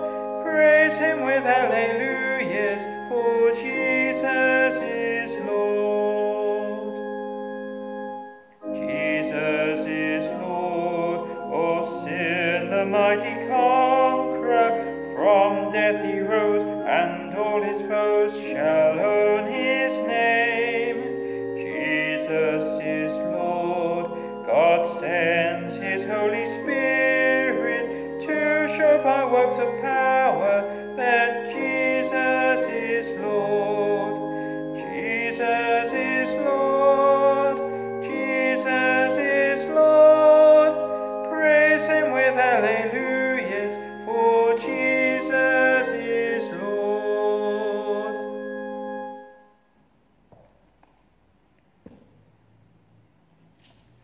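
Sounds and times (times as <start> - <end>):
hymn singing: 0.0 - 49.7
keyboard accompaniment: 0.0 - 54.0.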